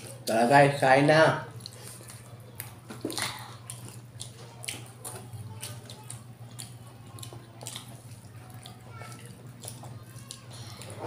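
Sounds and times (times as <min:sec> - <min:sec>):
wet chewing and lip-smacking: 0:01.5 - 0:11.0.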